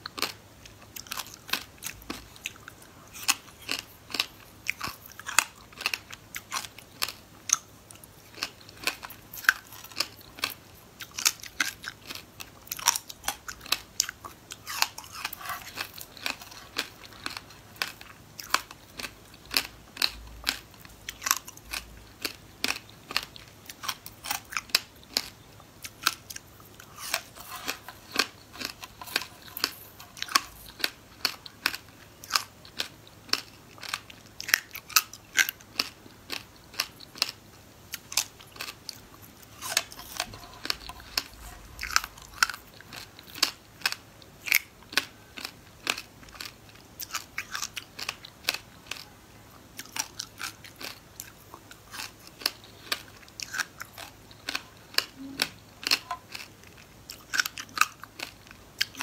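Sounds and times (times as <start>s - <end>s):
crunching frozen fruit: 0.0s - 49.1s, 49.8s - 59.0s.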